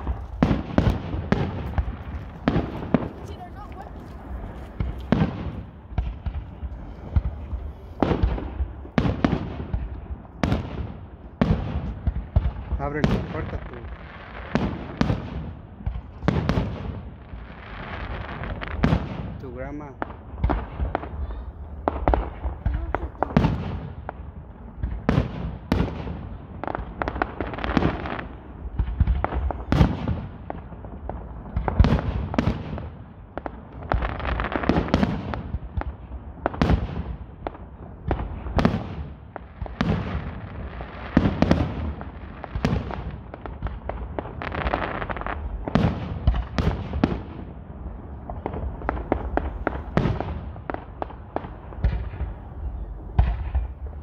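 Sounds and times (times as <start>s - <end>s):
fireworks bangs and pops: 0.0s - 54.0s
fireworks rumble and crackle: 0.0s - 54.0s.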